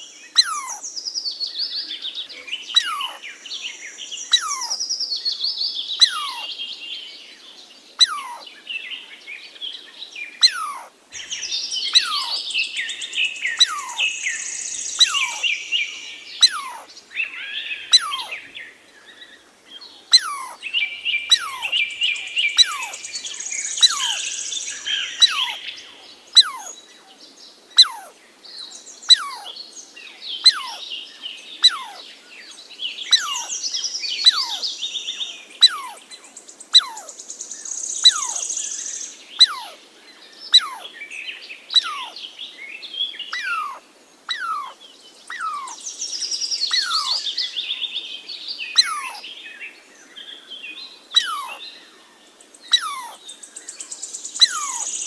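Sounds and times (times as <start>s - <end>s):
birds twittering: 0.0s - 55.0s.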